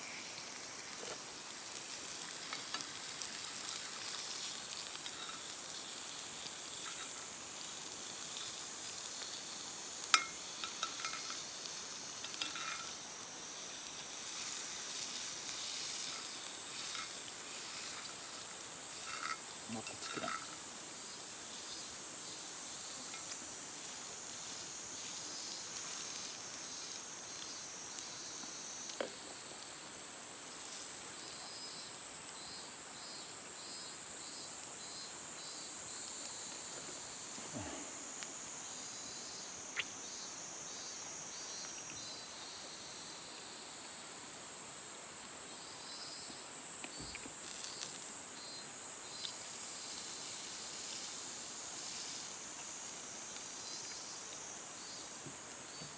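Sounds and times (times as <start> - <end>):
crickets chirping: 0.0 - 55.9
insects high-pitched buzz: 0.0 - 55.9.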